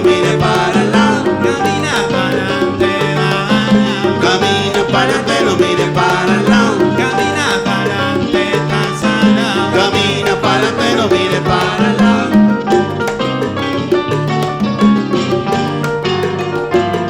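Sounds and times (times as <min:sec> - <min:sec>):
percussion beat: 0:00.0 - 0:17.0
salsa band playing: 0:00.0 - 0:17.0.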